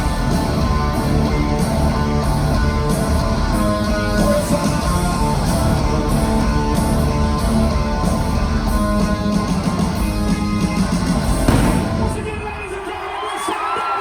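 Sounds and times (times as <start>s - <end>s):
distorted electric guitars: 0.0s - 12.2s
rock drums: 0.0s - 14.0s.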